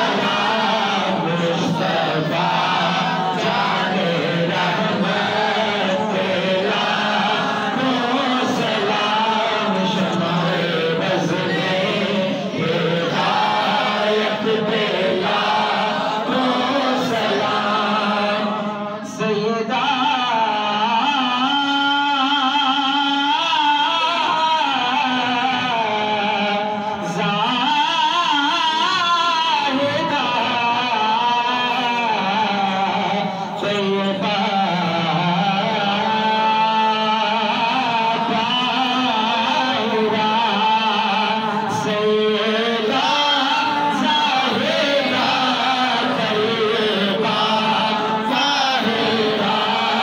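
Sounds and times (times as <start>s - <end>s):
men chanting: 0.0s - 50.0s.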